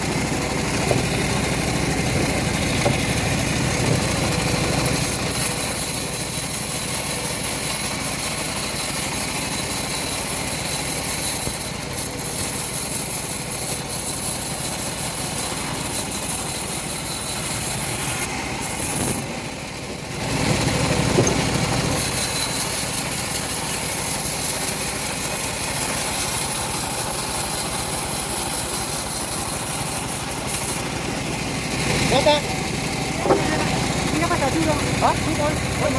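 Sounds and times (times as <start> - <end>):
bandsaw mill engine running: 0.0 - 35.9.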